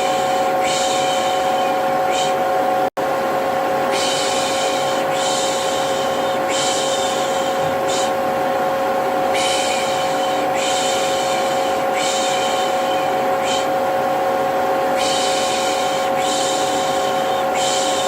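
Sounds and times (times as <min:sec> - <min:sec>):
vacuum cleaner humming: 0:00.0 - 0:18.0.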